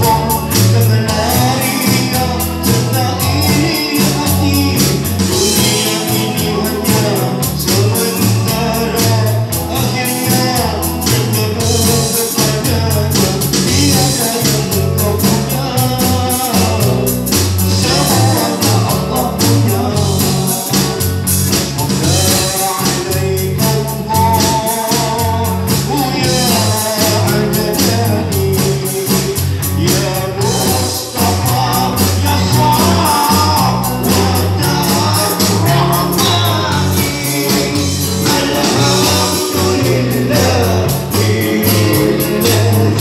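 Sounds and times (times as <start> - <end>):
electric guitars: 0.0 - 43.0
electronic drum beat: 0.0 - 43.0
man singing: 0.0 - 43.0.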